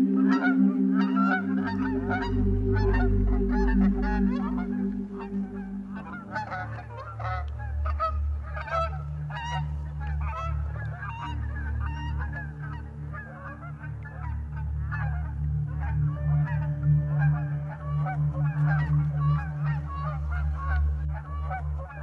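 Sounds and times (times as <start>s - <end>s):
geese honking: 0.0s - 22.0s
steady low rumble: 0.0s - 22.0s.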